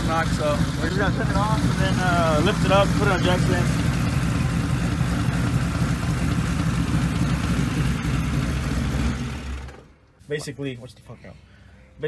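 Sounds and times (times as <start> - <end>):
engine knocking: 0.0 - 9.9
car engine idling: 0.0 - 10.0.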